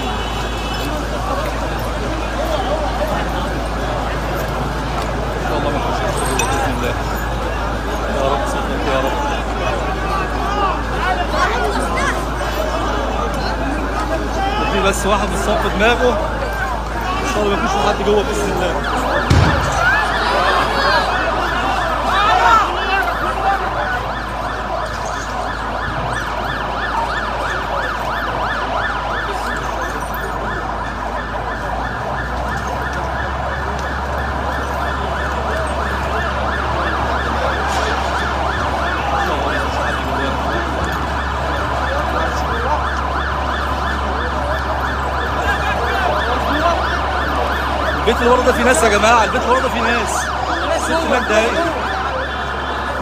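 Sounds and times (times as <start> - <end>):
fire engine siren yelping: 0.0 - 53.0.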